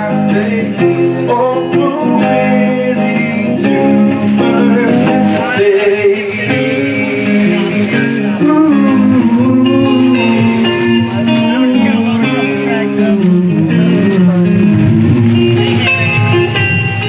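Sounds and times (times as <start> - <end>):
live band playing with guitar: 0.0 - 17.0.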